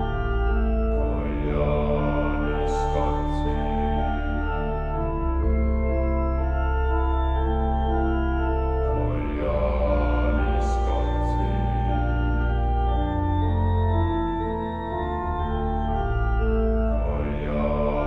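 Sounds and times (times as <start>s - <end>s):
slow keyboard chords: 0.0s - 18.0s.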